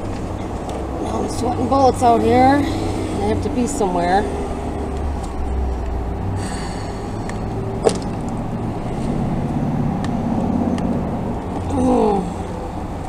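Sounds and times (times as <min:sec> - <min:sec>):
vehicle rumbling past: 0:00.0 - 0:13.0.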